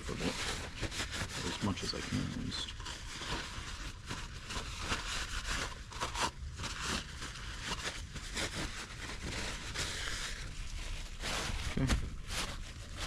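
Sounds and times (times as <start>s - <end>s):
paper towels rubbing and scraping: 0.0s - 13.0s.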